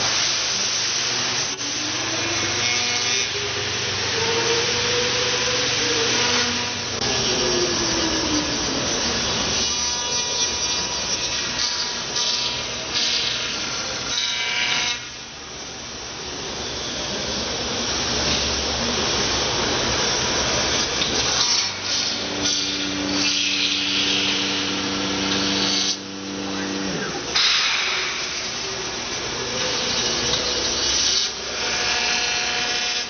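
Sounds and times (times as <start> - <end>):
steady pitched hum: 0.0 - 14.2, 14.8 - 33.0
cnc machine cutting: 0.0 - 33.0.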